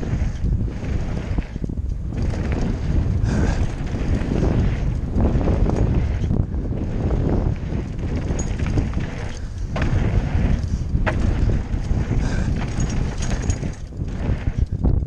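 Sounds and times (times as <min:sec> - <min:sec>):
bike rattling over bumps: 0:00.0 - 0:15.0
tyres rolling on dirt trail: 0:00.0 - 0:15.0
wind buffeting microphone: 0:00.0 - 0:15.0.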